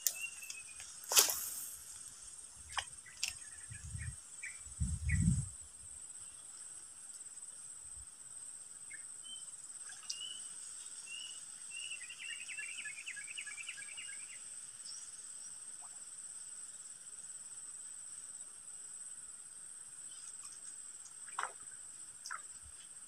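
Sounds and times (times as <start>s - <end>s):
insect trill: 0.0s - 23.0s.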